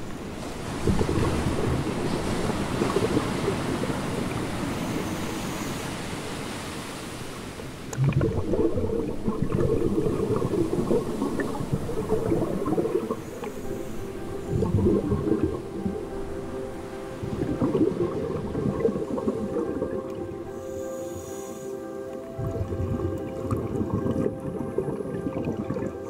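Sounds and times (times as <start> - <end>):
underwater bubbling and churning: 0.0 - 26.0.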